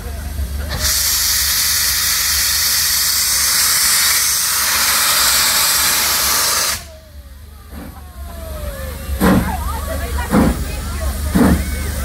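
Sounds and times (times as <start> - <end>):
steam locomotive venting steam: 0.0 - 12.0.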